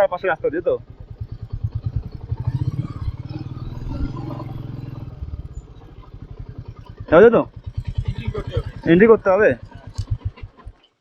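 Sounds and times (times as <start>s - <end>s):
motorcycle engine thumping: 0.0s - 11.0s.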